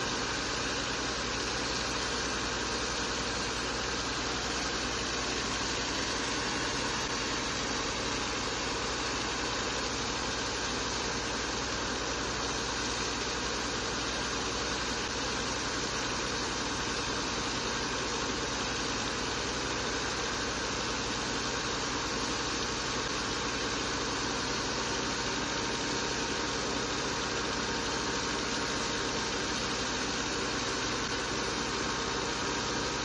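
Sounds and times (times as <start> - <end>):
pump engine running: 0.0 - 33.0.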